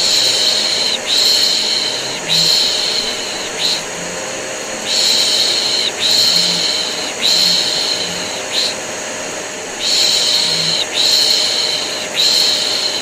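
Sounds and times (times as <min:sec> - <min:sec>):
vacuum cleaner humming: 0:00.0 - 0:13.0.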